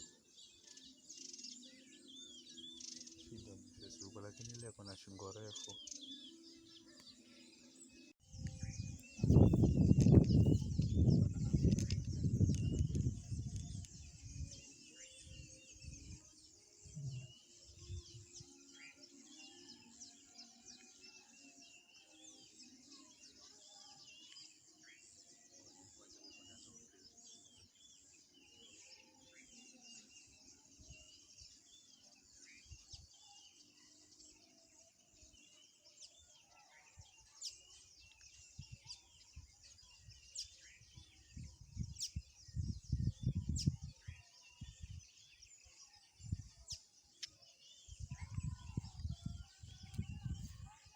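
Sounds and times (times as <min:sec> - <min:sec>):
birds chirping and whistling: 0:00.0 - 0:50.9.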